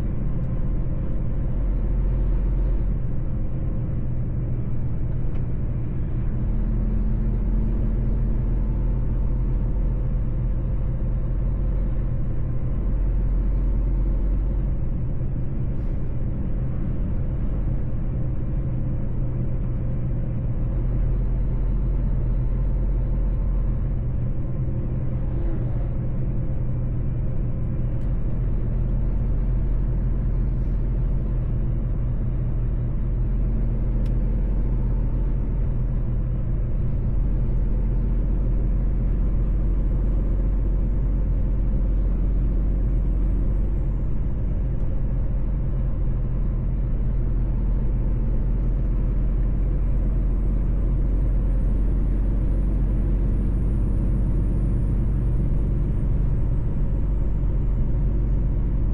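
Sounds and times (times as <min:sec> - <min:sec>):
road rumble: 0:00.0 - 0:58.9
truck diesel engine droning: 0:00.0 - 0:58.9.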